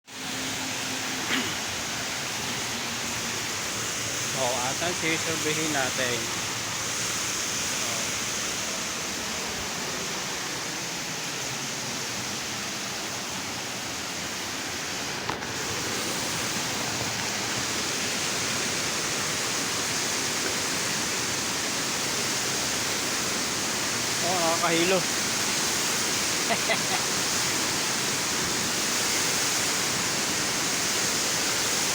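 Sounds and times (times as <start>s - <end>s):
running water rushing: 0.1s - 31.9s.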